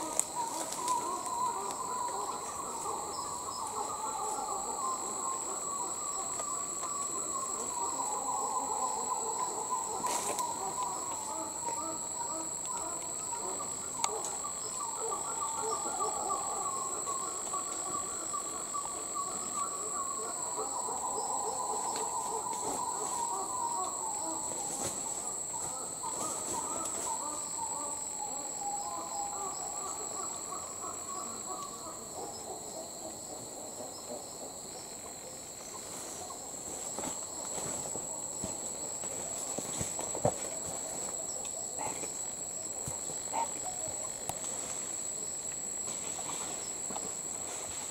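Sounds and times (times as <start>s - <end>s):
high-pitched insect drone: 0.0s - 47.9s.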